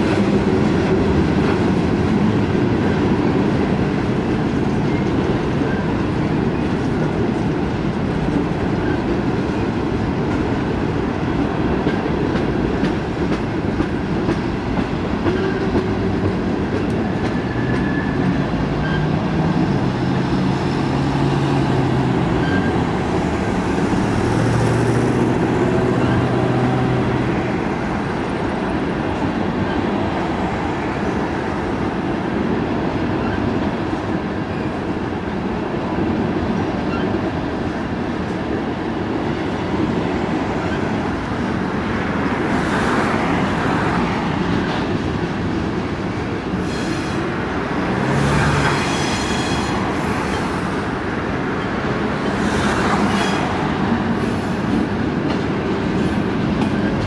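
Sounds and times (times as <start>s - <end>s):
freight train wheels clattering on rails: 0.0s - 57.0s.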